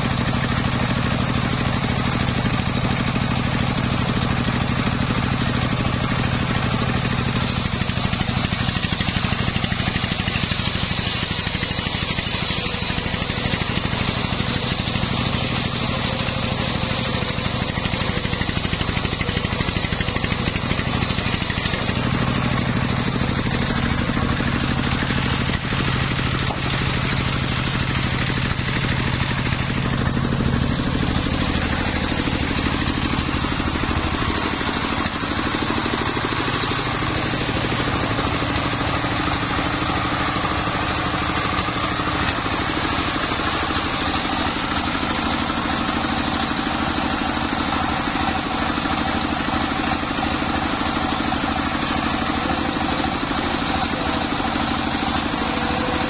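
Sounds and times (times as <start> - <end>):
diesel engine running under load: 0.0 - 56.0
circular saw blade ripping log: 6.0 - 56.0.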